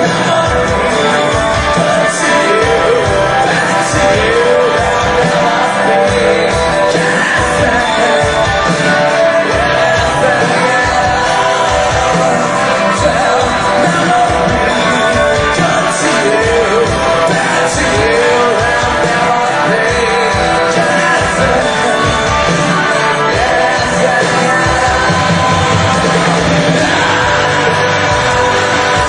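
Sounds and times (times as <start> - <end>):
drums beating: 0.0 - 29.0
guitars: 0.0 - 29.0
live rock band playing: 0.0 - 29.0
person singing lead vocal: 0.0 - 29.0.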